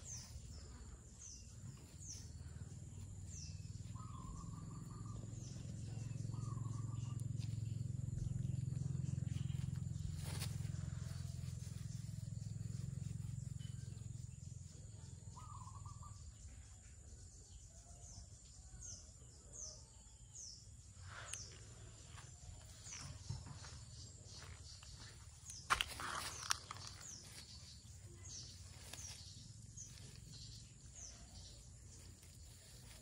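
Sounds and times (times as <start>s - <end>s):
birds calling: 0.0s - 14.4s, 15.3s - 16.7s, 20.4s - 33.0s.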